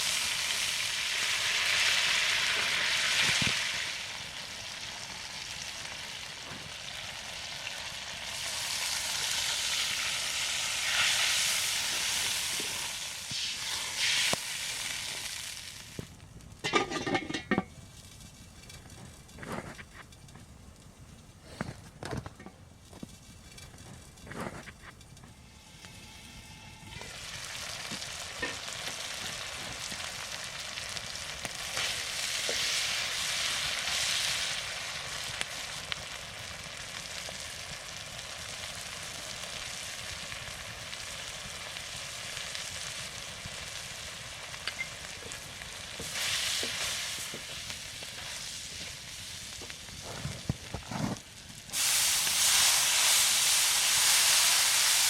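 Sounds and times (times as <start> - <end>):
food sizzling in a pan: 0.0 - 17.6, 25.4 - 55.0.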